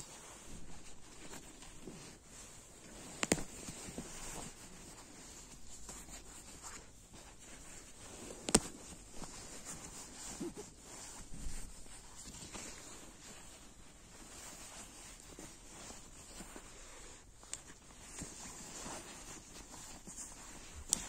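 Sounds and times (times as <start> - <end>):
fabric rustling: 0.0 - 21.0.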